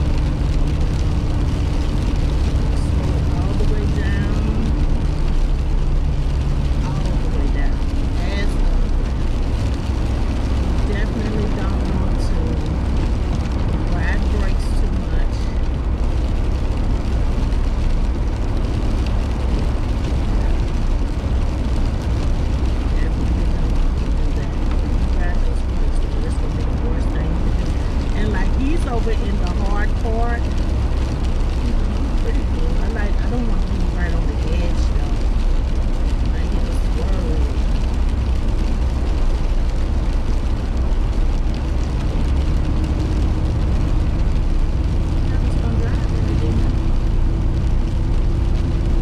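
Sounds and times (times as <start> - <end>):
car engine and tyre noise: 0.0 - 49.0.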